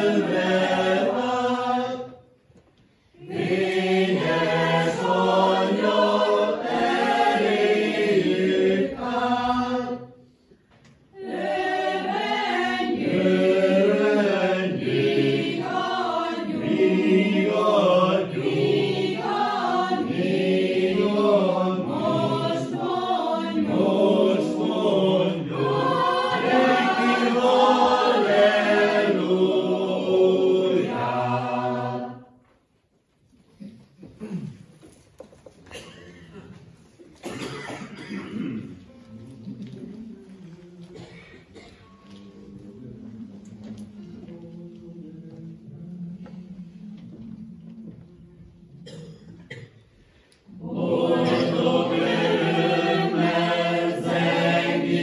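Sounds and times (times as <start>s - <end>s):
mixed choir singing unaccompanied: 0.0s - 2.4s, 3.1s - 10.4s, 11.1s - 32.4s, 39.8s - 49.6s, 50.4s - 55.0s.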